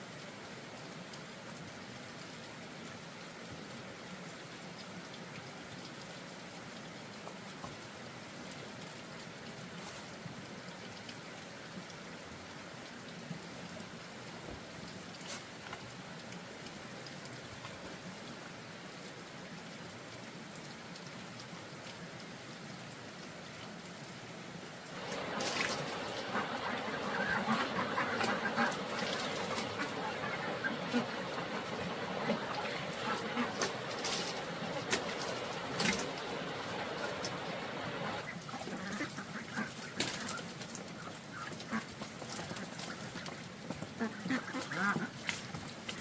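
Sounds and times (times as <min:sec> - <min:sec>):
patter of falling water: 0:00.0 - 0:46.0.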